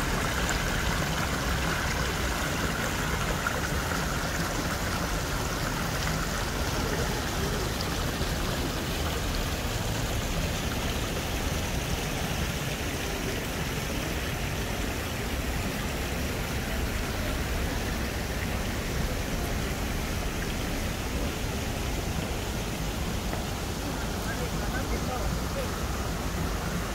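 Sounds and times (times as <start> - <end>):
water flowing in small waterfall: 0.0 - 26.9.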